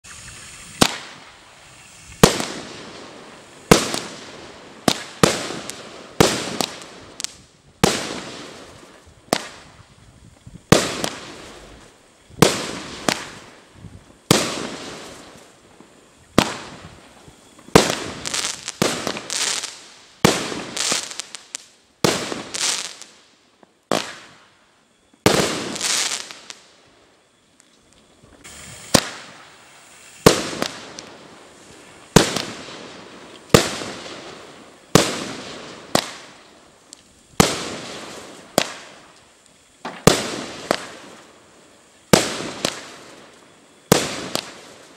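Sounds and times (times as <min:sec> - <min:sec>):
firework aerial bursts: 0:00.0 - 0:23.2, 0:25.2 - 0:26.8, 0:28.2 - 0:44.9
firework crackling: 0:00.0 - 0:44.9.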